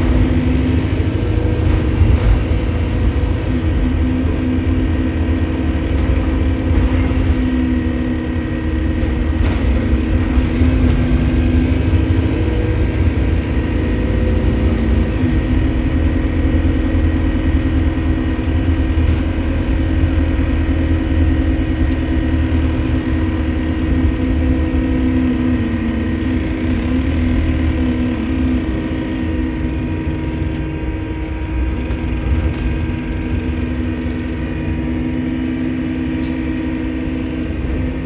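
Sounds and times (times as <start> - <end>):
diesel bus engine droning: 0.0 - 38.0.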